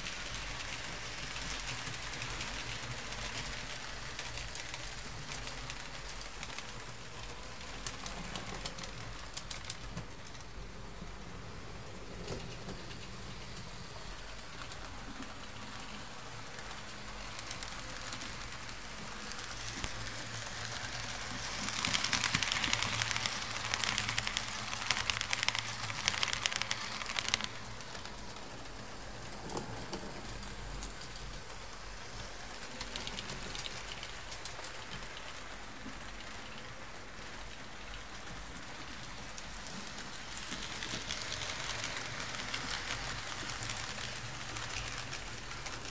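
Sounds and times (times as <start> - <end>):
model train wheels clattering: 0.0 - 11.2, 11.9 - 45.9.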